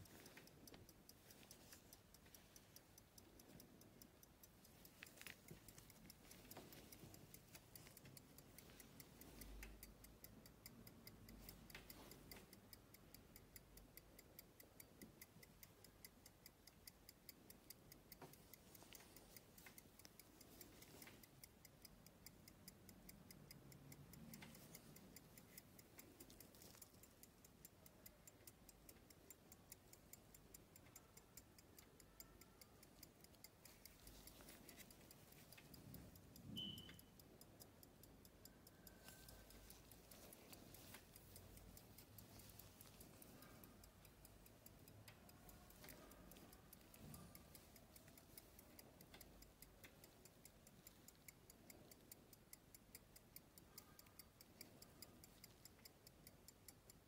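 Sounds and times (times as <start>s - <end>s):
pocket watch ticking: 0.0s - 57.0s.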